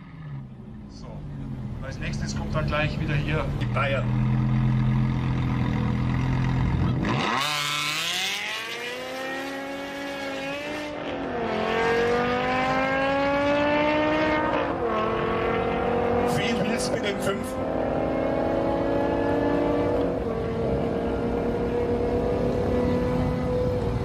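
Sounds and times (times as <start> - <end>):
drag racing car engine revving: 2.8 - 24.0.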